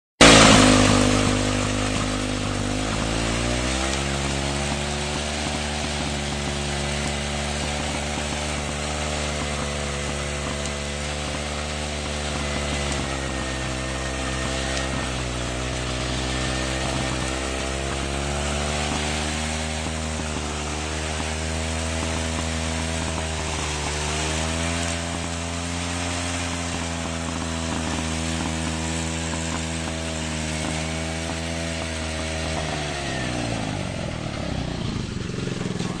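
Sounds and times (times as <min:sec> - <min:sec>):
small gasoline engine running: 0:00.2 - 0:36.0.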